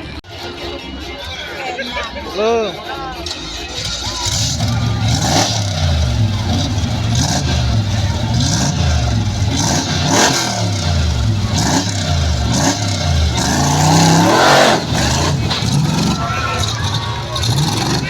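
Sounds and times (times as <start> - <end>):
off-road vehicle engine revving: 3.2 - 18.0.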